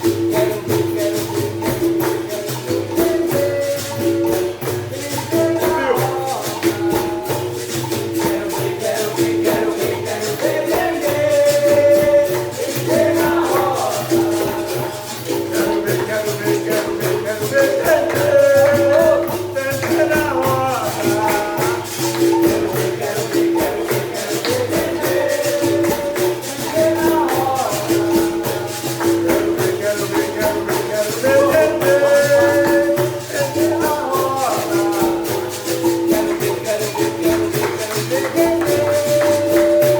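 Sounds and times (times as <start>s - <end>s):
person singing: 0.0s - 39.9s
shaker rattling: 0.0s - 39.9s
tambourine jingles: 0.0s - 39.9s.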